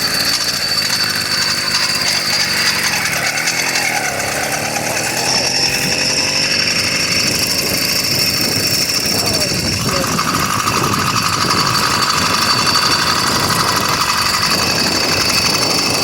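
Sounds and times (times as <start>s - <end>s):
two-stroke engine buzzing: 0.0s - 16.0s.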